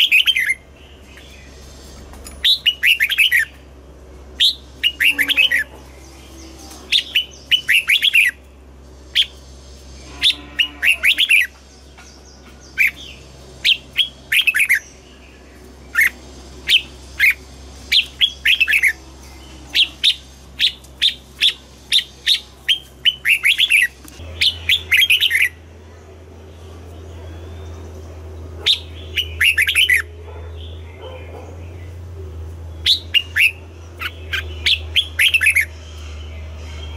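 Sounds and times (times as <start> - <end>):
bird chirping song: 0.0 - 36.9.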